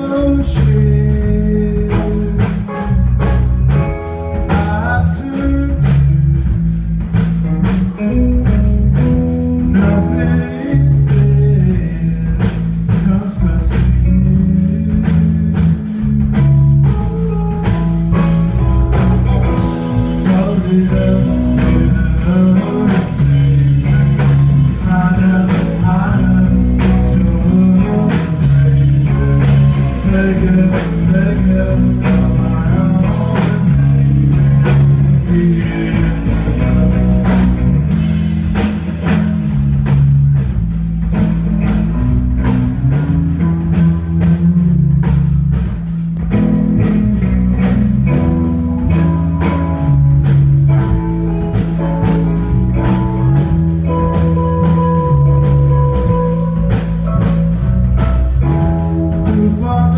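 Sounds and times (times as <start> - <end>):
drum kit: 0.0 - 59.9
electric guitars: 0.0 - 59.9
repeating low bass line: 0.0 - 59.9.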